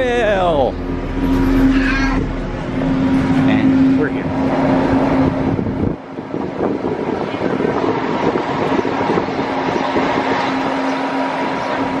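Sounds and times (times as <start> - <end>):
monorail running: 0.0 - 12.0
wind noise: 0.0 - 12.0.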